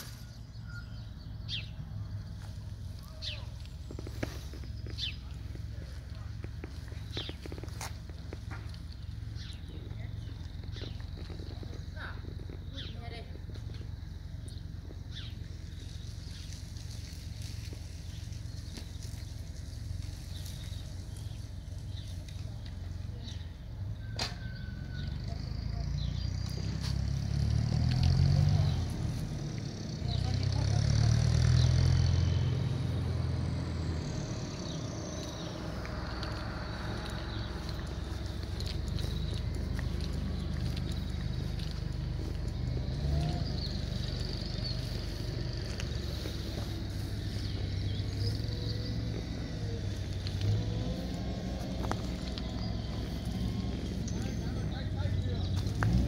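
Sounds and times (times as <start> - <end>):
motor vehicle rumble: 0.0 - 56.0.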